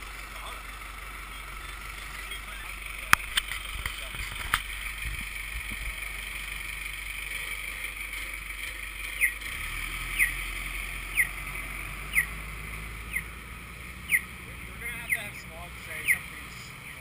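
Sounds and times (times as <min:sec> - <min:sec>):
crossing signal chirping: 0:00.0 - 0:04.1, 0:04.7 - 0:17.0
street traffic: 0:00.0 - 0:17.0.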